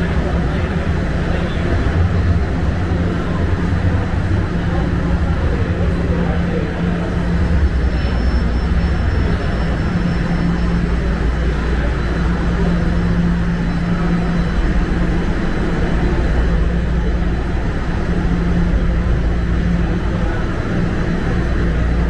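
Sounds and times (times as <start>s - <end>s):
low droning tone: 0.0s - 22.0s
stationary subway train humming: 0.0s - 22.0s.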